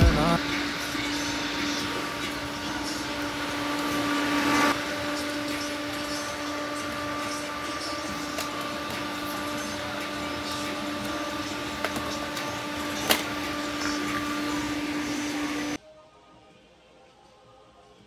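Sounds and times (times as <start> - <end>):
handheld fan motor humming: 0.0 - 15.8.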